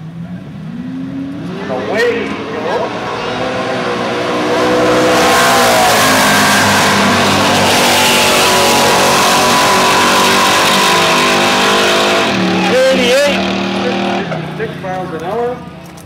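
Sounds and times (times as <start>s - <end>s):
drag car engine at full throttle: 0.0s - 16.0s.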